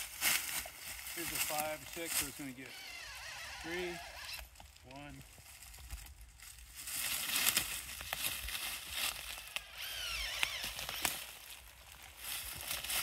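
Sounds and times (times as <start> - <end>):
boots crunching through dry leaves: 0.0 - 13.0.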